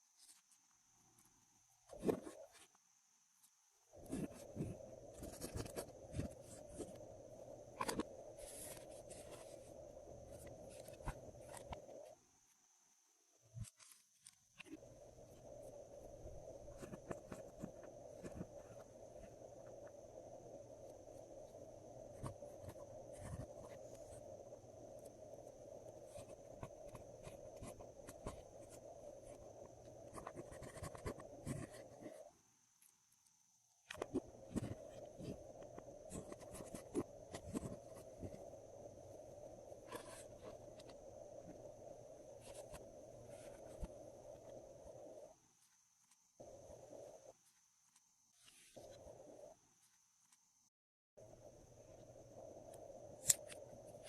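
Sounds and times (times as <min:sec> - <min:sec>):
steady background hiss: 0:00.0 - 0:50.6.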